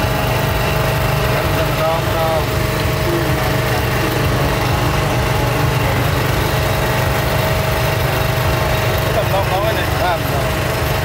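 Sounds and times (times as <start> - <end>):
constant hum: 0.0 - 11.0
engine rumble: 0.0 - 11.0.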